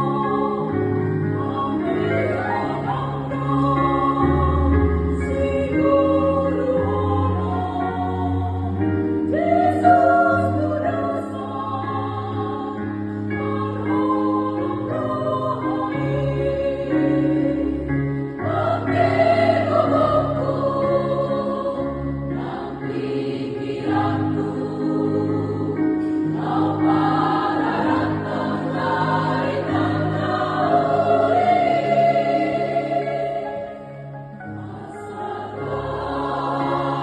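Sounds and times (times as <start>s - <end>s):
keyboard accompaniment: 0.0s - 37.0s
women's choir singing a hymn: 0.0s - 37.0s.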